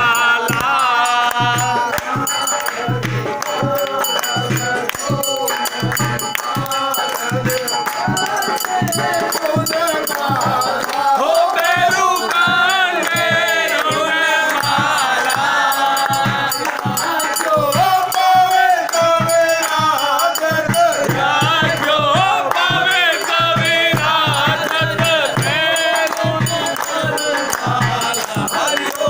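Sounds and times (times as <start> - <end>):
clattering rhythmic percussion: 0.0 - 29.0
group of voices chanting: 0.0 - 29.0.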